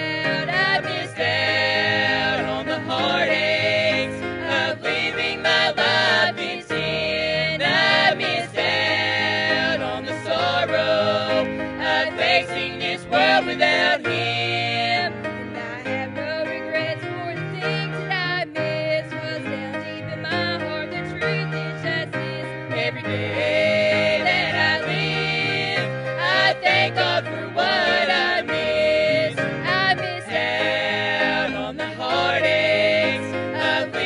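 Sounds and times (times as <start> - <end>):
vocal trio singing gospel: 0.0 - 34.0.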